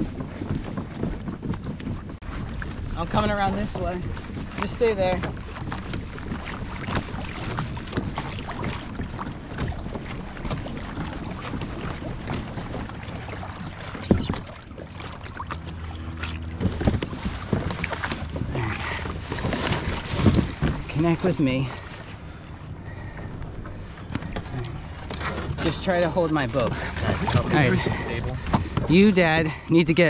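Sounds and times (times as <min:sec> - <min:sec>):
water sloshing against kayak hulls: 0:00.0 - 0:30.0
wind buffeting microphone: 0:00.0 - 0:30.0.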